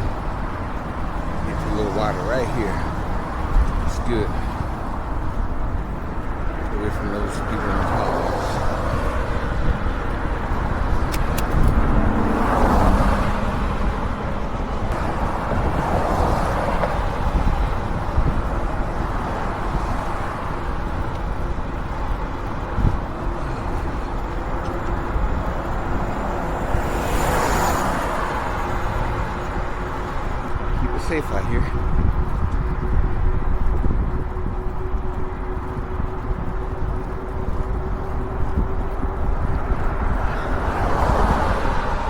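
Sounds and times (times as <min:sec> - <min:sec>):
steady low rumble: 0:00.0 - 0:12.4, 0:13.0 - 0:42.0
cars passing: 0:00.0 - 0:42.0.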